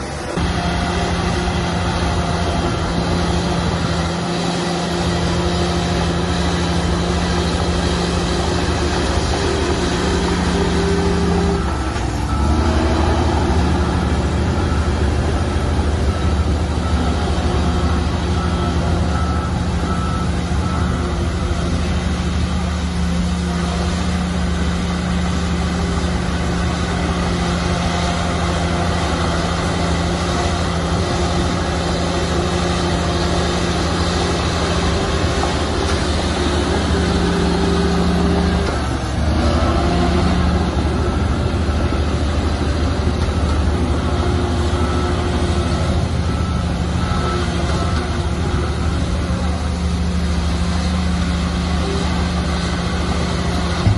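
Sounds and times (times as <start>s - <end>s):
diesel earthmoving machinery running: 0.0s - 53.9s
faint reversing beeper: 0.3s - 53.9s.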